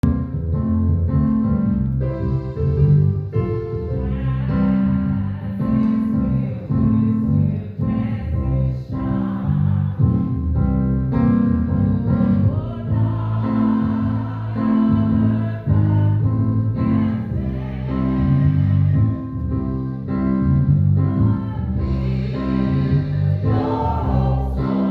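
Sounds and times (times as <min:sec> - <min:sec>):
choir singing a hymn: 0:02.3 - 0:10.6, 0:12.1 - 0:20.2, 0:21.0 - 0:24.9.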